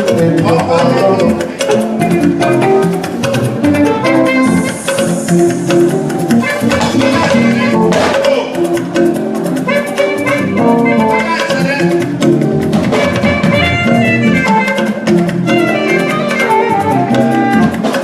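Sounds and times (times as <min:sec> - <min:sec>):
band with drums and guitar: 0:00.0 - 0:18.0.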